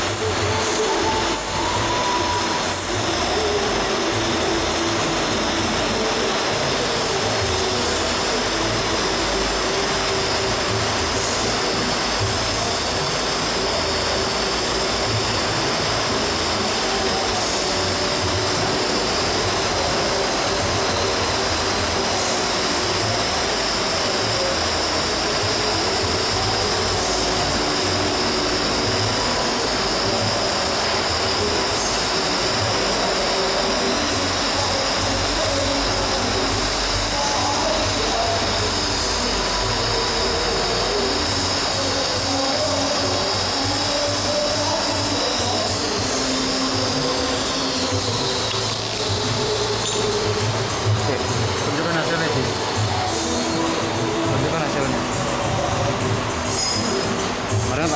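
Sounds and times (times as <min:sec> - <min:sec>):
welding arc hissing: 0:00.0 - 0:57.9.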